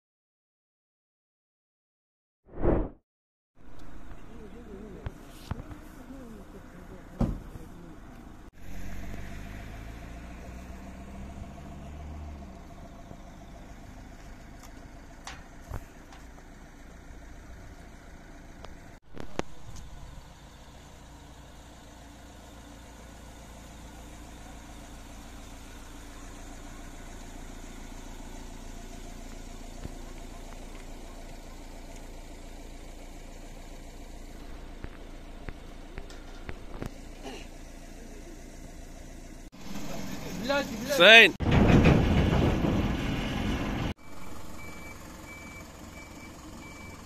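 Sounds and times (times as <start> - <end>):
road noise: 3.6 - 47.0
vehicle engine running: 3.6 - 47.0.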